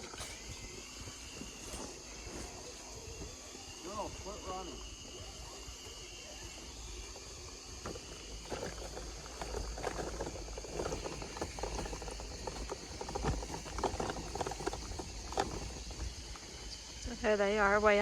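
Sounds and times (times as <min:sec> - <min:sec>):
footsteps crunching on trail: 0:00.0 - 0:05.0, 0:05.7 - 0:17.2.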